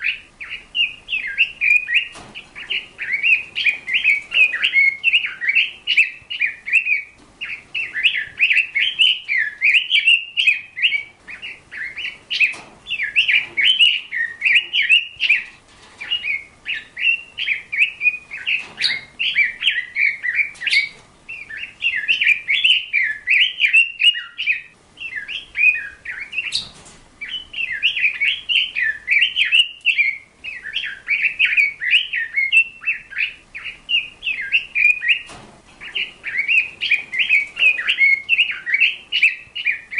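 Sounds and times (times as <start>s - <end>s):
songbird chirping and warbling: 0.0s - 39.9s.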